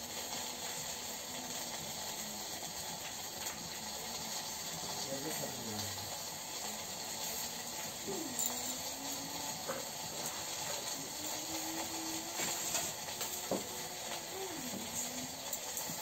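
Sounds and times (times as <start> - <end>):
wood fire hissing: 0.0 - 16.0.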